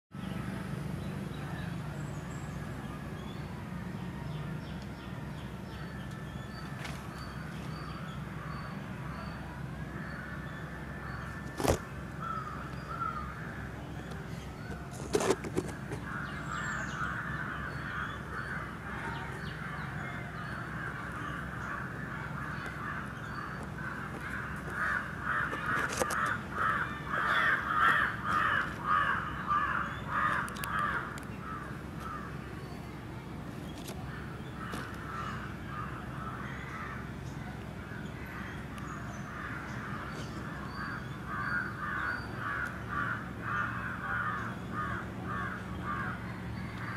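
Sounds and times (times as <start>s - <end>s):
rapidly repeated bird calls: 0.2s - 46.9s.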